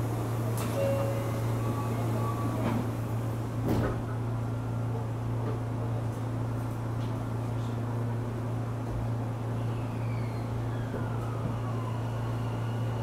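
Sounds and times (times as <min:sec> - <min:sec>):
train car low hum: 0:00.0 - 0:13.0.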